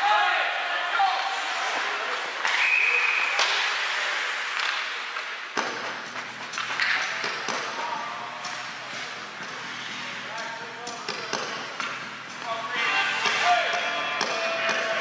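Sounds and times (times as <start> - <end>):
murmur of rink crowd: 0.0 - 15.0.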